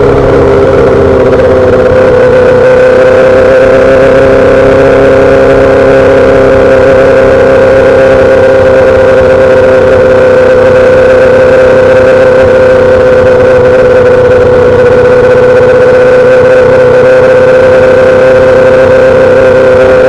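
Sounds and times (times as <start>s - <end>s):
motorcycle engine held steady: 0.0s - 20.0s.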